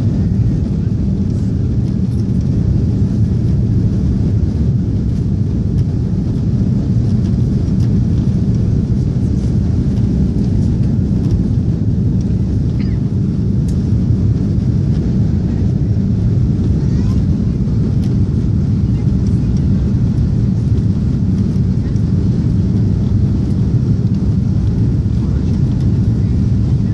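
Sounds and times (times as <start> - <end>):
airliner cabin engine rumble: 0.0 - 26.9.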